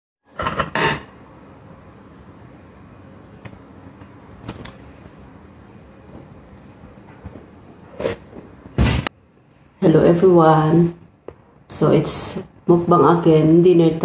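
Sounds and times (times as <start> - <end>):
faint room hum: 0.3 - 14.0.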